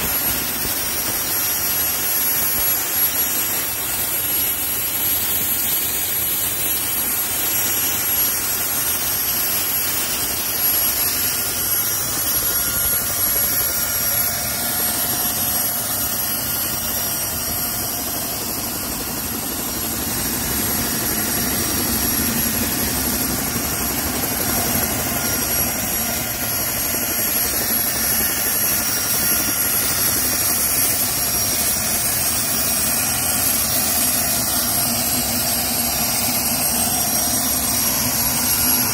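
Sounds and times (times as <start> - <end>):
broad rushing noise: 0.0 - 38.9
helicopter turbine whine: 0.0 - 38.9.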